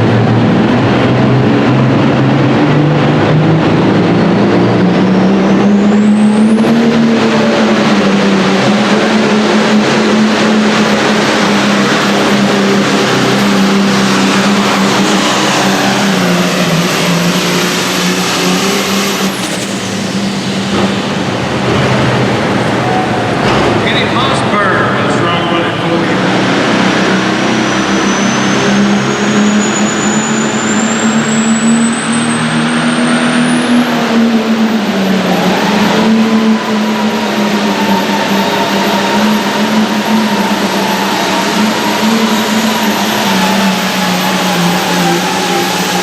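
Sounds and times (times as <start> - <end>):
diesel tractor engine under load: 0.0 - 46.0
high turbo whine: 0.0 - 46.0.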